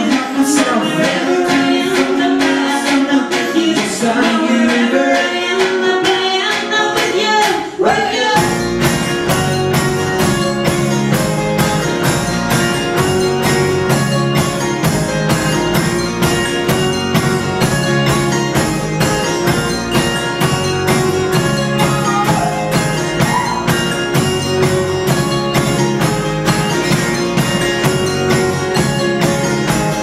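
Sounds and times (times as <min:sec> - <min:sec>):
band playing live: 0:00.0 - 0:30.0.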